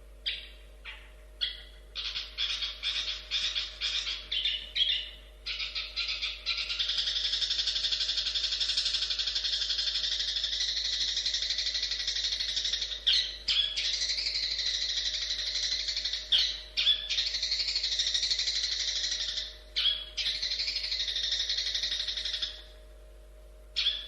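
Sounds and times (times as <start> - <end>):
bird chattering song: 0.2 - 22.8, 23.8 - 24.0.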